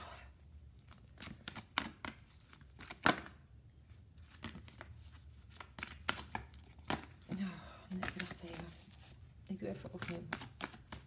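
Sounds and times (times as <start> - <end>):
cards being shuffled: 0.8 - 3.4, 4.2 - 11.0.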